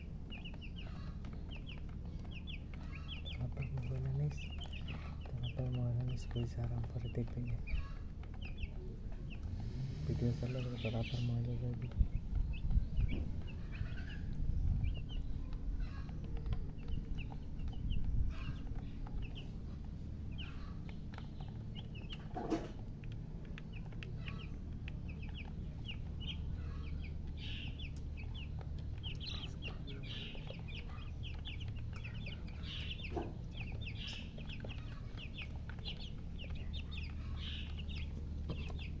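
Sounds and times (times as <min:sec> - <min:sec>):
baby chicks peeping: 0:00.0 - 0:39.0.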